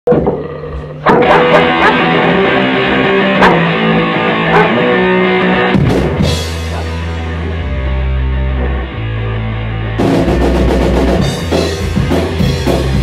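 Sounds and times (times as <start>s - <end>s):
punk band playing: 0.1s - 13.0s.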